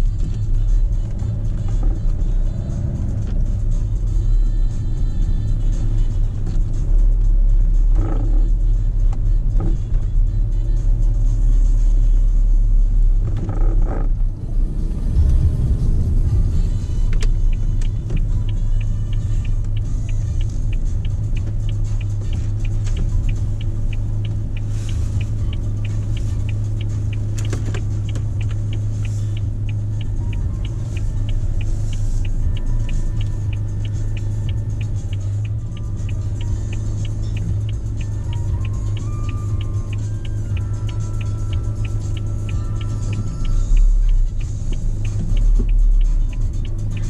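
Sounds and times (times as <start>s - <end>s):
car engine humming: 0.0s - 47.0s
turn signal ticking: 0.0s - 47.0s.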